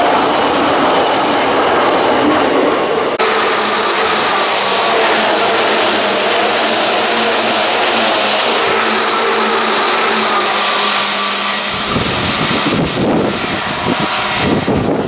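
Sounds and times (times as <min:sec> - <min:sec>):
train wheels rushing on rail: 0:00.0 - 0:15.0
wind buffeting microphone: 0:00.0 - 0:15.0.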